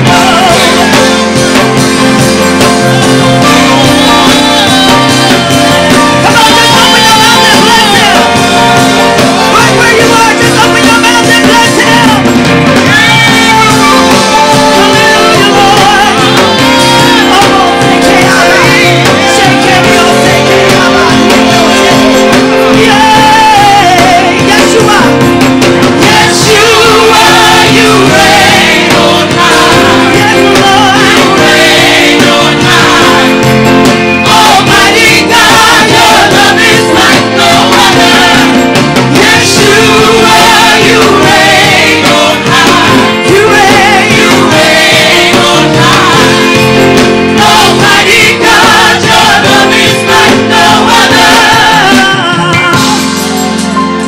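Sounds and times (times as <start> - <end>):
voices singing and shouting: 2.5 - 25.3, 25.9 - 53.1.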